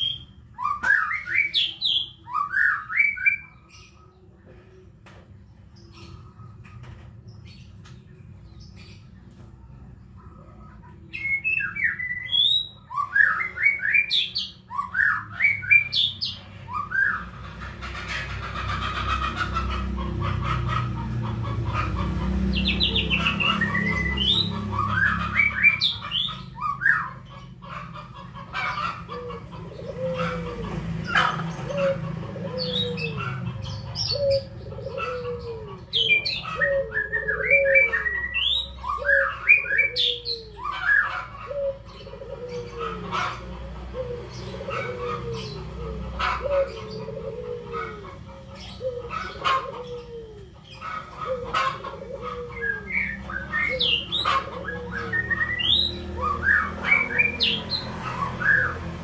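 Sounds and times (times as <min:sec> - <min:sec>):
birds chirping and singing: 0:00.0 - 0:59.0
low repeated bird call: 0:05.6 - 0:59.0.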